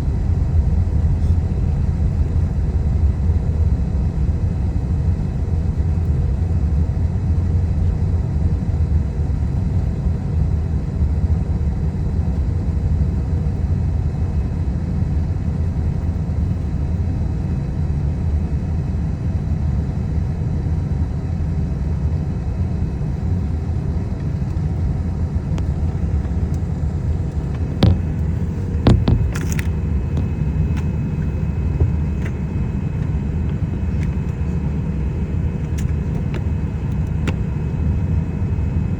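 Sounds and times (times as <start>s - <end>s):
airliner taxiing rumble: 0.0s - 38.9s.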